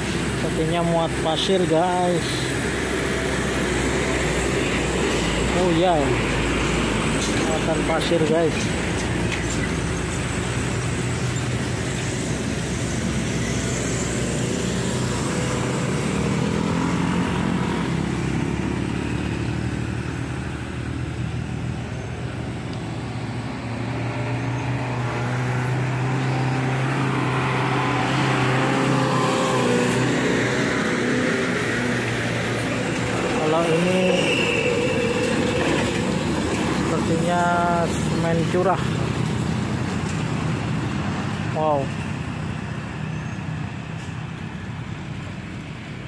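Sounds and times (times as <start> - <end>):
motorcycles passing: 0.0 - 46.0
truck diesel engine labouring uphill: 0.0 - 46.0.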